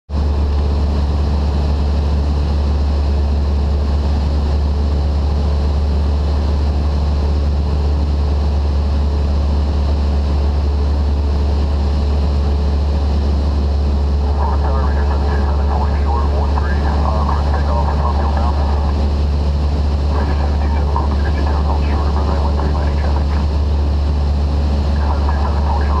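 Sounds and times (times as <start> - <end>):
aircraft engine droning in cabin: 0.1 - 26.0.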